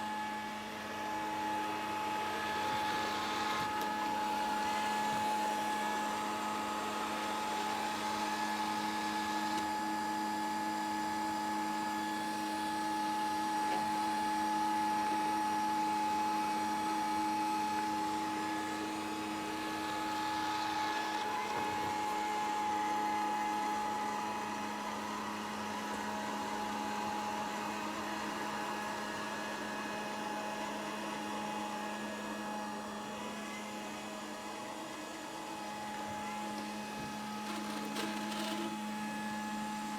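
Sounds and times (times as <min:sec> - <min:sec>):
robot vacuum cleaner running: 0:00.0 - 0:39.9.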